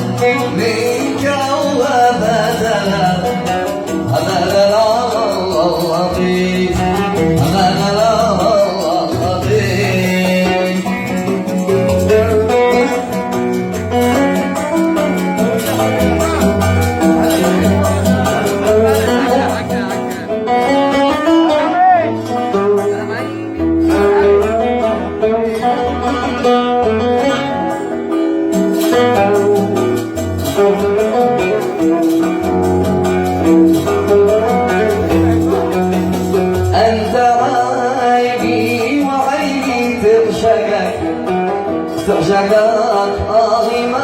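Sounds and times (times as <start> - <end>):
oud playing plucked notes: 0.0 - 44.0.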